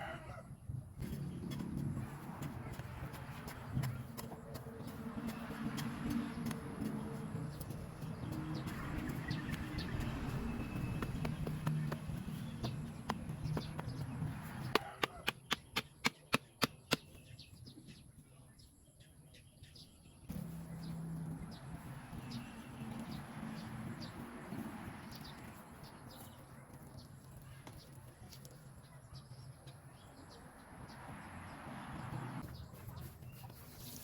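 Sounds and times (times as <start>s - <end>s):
birds chirping: 1.0s - 34.0s.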